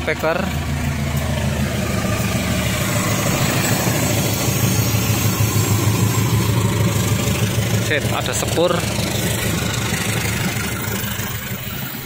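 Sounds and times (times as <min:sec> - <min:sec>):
diesel locomotive engine hum: 0:00.0 - 0:12.0.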